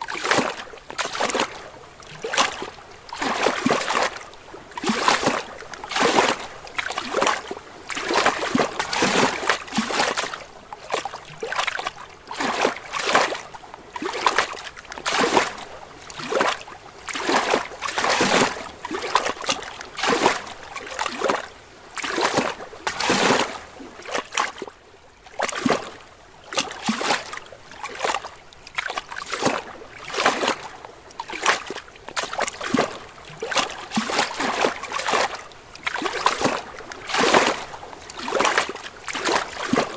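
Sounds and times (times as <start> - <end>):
waves lapping against rocks: 0.0 - 39.9.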